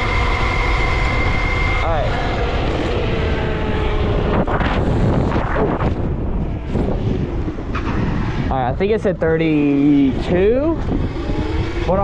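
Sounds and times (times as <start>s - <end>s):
electric motor whine: 0.0s - 12.0s
wind rush on microphone: 0.0s - 12.0s.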